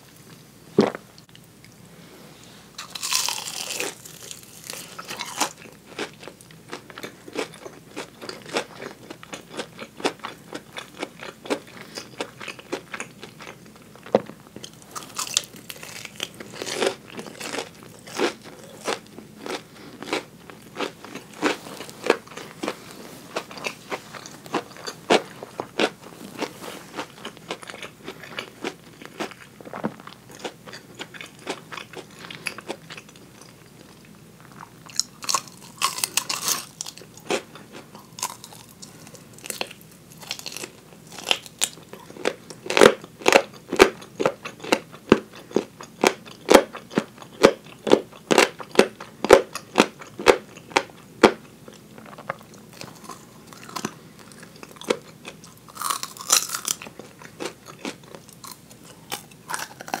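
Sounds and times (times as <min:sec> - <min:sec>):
chewing fried chicken: 0:02.8 - 1:00.0.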